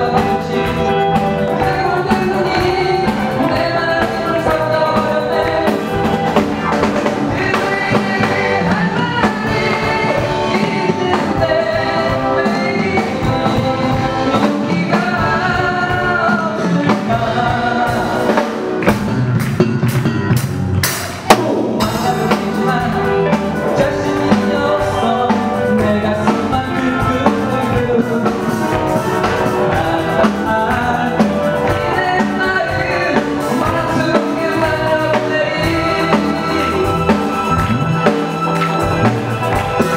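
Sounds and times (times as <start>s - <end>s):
man singing into microphone: 0.0s - 18.6s, 21.3s - 39.2s
live band playing pop-rock: 0.0s - 39.9s.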